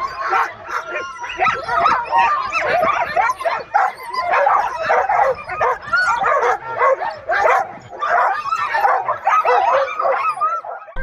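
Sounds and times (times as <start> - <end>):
huskies barking: 0.0 - 11.0.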